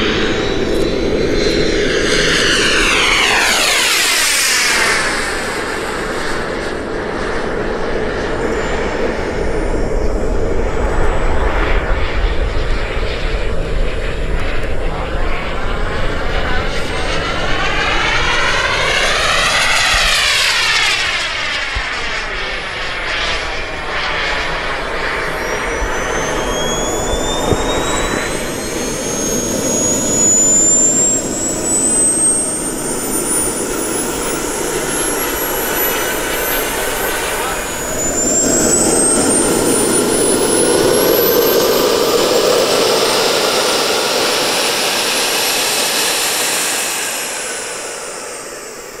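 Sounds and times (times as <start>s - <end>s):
high rising whine: 0.0s - 49.0s
model plane motor drone: 0.0s - 49.0s.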